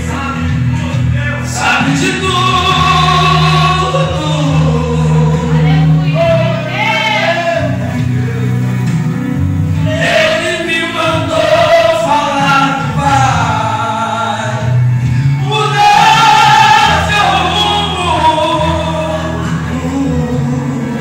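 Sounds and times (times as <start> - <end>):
man singing a hymn: 0.0 - 8.0, 9.7 - 21.0.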